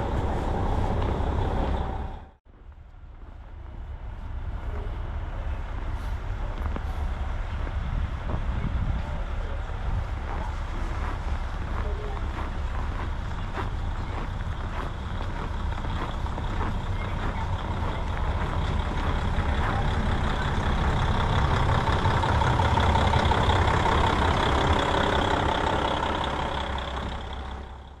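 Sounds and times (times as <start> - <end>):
diesel railcar engine rumbling: 0.0 - 28.0.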